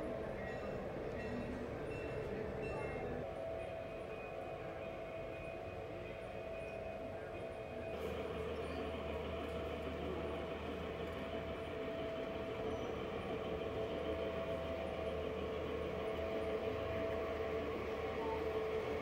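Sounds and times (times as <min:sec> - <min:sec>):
model trains rumbling with whine: 0:00.0 - 0:19.0.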